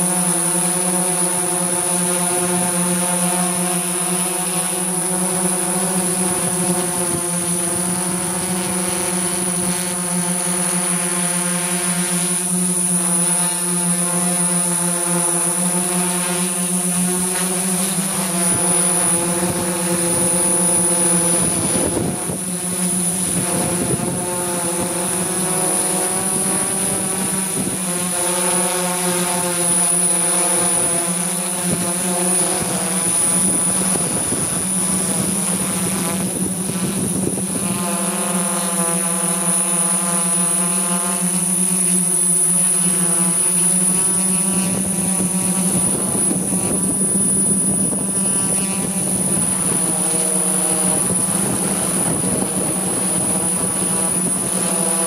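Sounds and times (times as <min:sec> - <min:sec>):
drone propellers buzzing: 0:00.0 - 0:55.0
thin high whine: 0:00.0 - 0:55.0.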